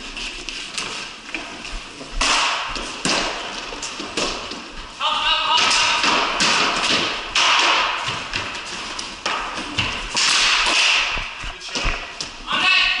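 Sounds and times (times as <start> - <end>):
hockey sticks and ball tapping: 0.4 - 4.8, 5.4 - 12.5.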